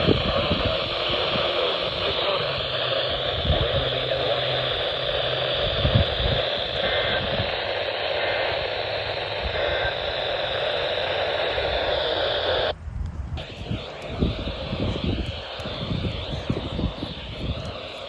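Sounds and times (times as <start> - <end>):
radio static hiss: 0.0 - 12.8, 13.4 - 18.0.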